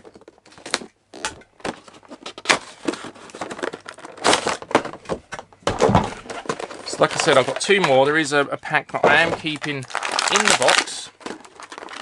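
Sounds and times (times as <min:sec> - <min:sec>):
plastic packaging crinkling: 0:00.0 - 0:05.0, 0:05.6 - 0:12.0.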